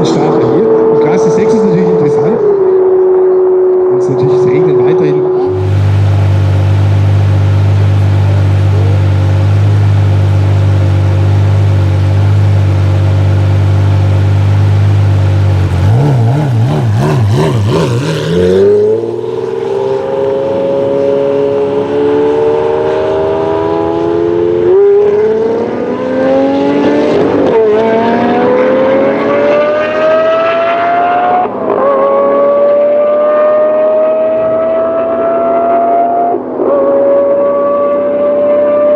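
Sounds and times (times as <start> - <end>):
sports car engine accelerating: 0.0 - 38.9.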